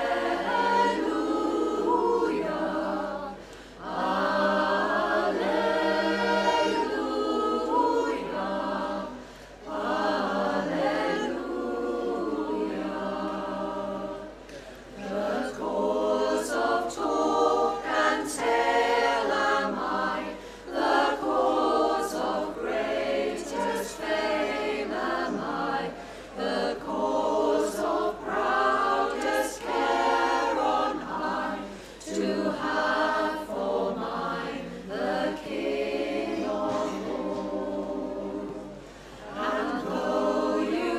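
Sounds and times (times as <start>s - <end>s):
women's choir singing a cappella: 0.0s - 40.9s.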